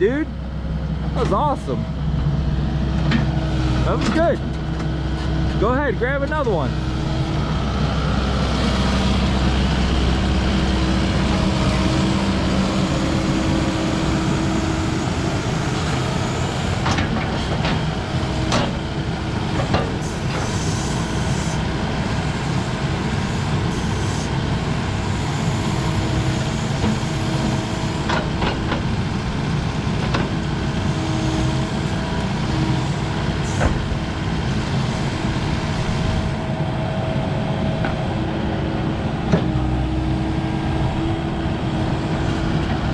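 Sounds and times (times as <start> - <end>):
excavator diesel engine: 0.0 - 42.9.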